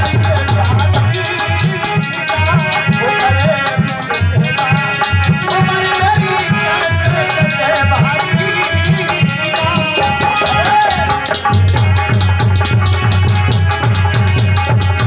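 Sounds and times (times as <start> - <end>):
drum beat: 0.0 - 15.0.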